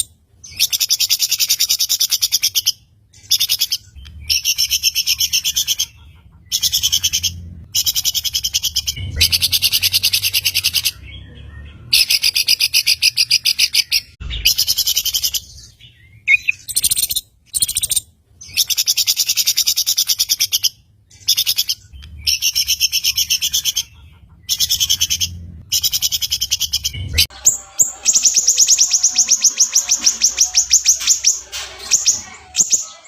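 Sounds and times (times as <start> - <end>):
songbird chirping trills: 0.0 - 33.0.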